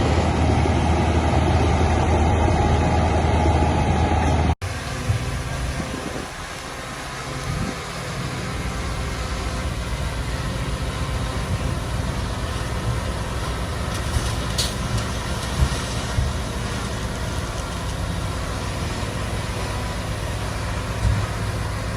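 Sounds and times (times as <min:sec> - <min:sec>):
diesel engine rumbling: 0:00.0 - 0:21.9.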